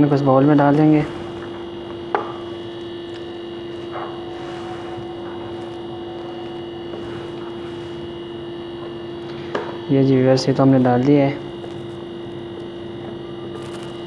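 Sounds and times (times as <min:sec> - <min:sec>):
faint high whine: 0:00.0 - 0:14.0
steady electrical hum: 0:00.0 - 0:14.0.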